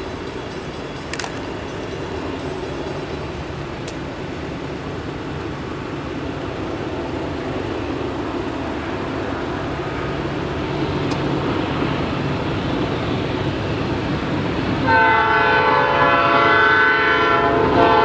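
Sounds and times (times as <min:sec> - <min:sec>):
rain hiss: 0:00.0 - 0:16.6
locomotive engine drone: 0:00.0 - 0:18.0.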